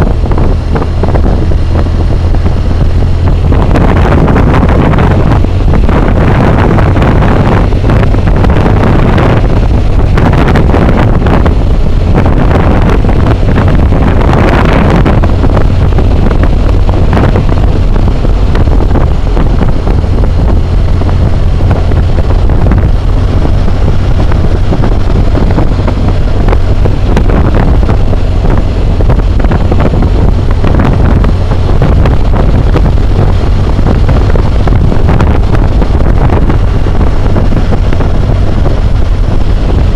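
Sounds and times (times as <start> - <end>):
motorcycle engine droning: 0.0 - 39.9
wind roaring over microphone: 0.0 - 39.9.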